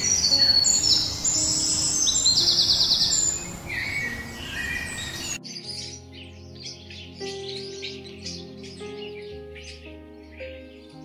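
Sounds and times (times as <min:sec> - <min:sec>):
small birds chirping: 0:00.0 - 0:11.0
soft background music: 0:00.0 - 0:11.0.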